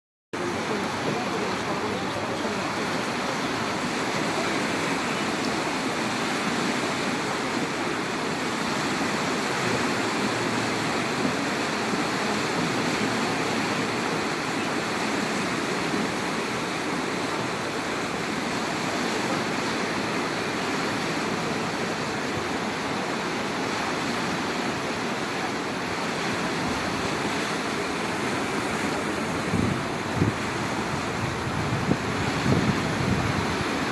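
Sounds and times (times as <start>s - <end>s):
rushing river water: 0.4s - 33.9s.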